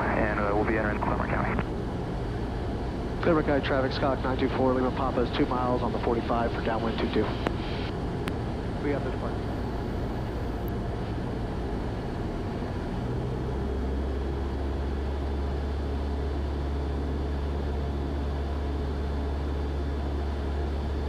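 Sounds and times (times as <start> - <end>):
propeller plane engine droning: 0.0 - 21.0.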